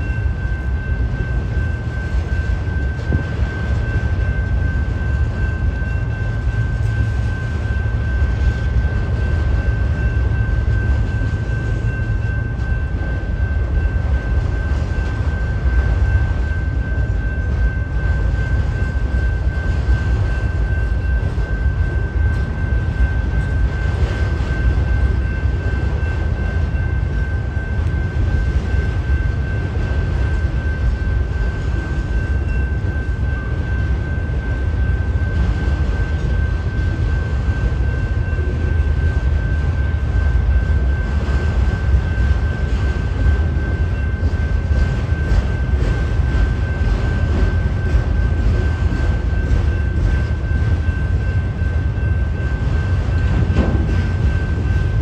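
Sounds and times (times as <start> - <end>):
thin steady high tone: 0.0 - 55.0
train wheels rumbling on rail: 0.0 - 55.0.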